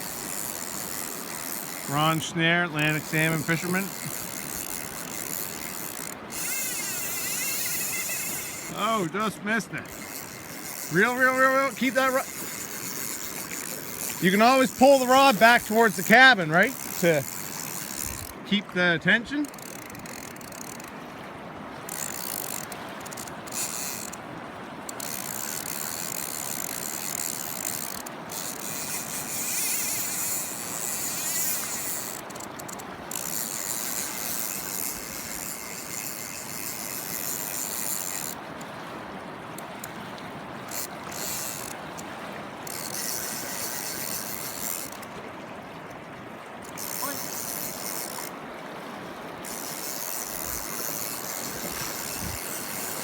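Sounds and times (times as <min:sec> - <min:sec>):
fishing reel ratcheting: 0:00.0 - 0:18.5, 0:19.4 - 0:21.0, 0:21.8 - 0:24.3, 0:24.9 - 0:38.7, 0:40.6 - 0:45.2, 0:46.6 - 0:48.4, 0:49.4 - 0:53.0.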